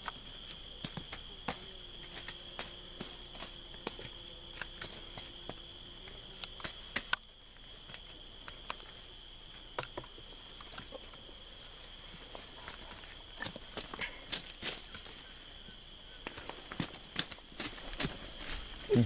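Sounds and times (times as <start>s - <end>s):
high insect trill: 0.0s - 19.0s.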